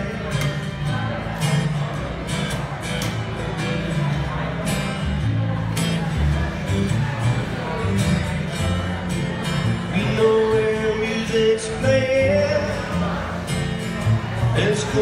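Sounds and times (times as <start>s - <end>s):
acoustic guitar strumming: 0.0s - 15.0s
plucked double bass: 0.0s - 15.0s.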